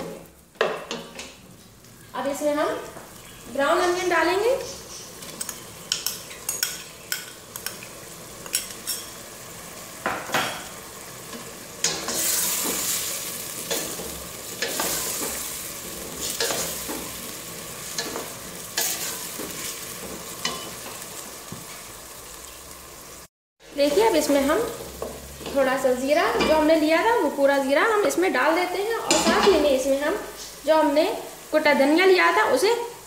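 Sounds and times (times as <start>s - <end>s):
onions sizzling in a pot: 0.0s - 33.0s.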